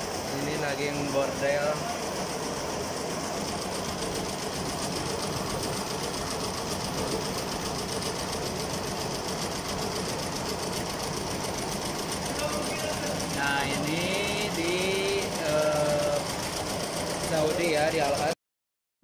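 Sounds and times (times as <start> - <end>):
embroidery machine stitching: 0.0 - 18.4.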